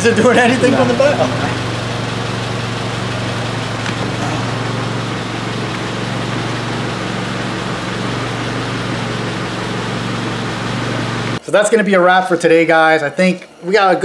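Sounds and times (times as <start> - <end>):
car engine idling: 0.0 - 11.4.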